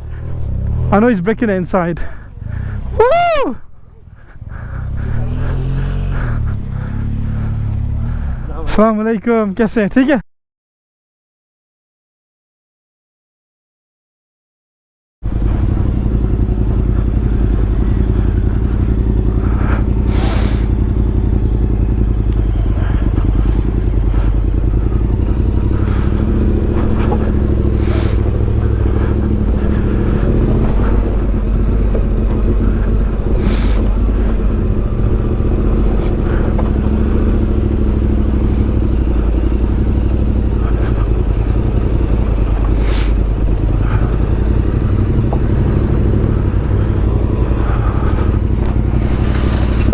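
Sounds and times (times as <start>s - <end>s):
motorcycle engine running: 0.0s - 9.2s, 15.2s - 49.9s.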